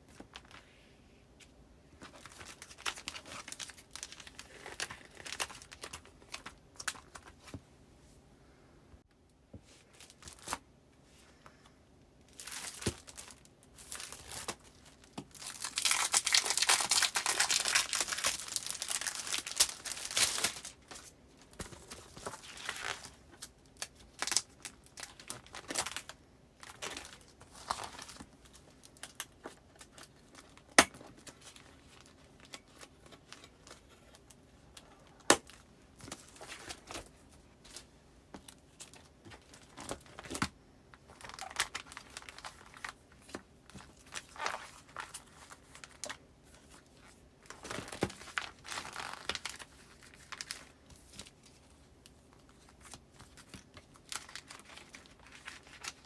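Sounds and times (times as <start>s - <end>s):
paper and plastic sleeves rustling: 1.4s - 7.6s, 9.5s - 11.5s, 12.3s - 56.0s.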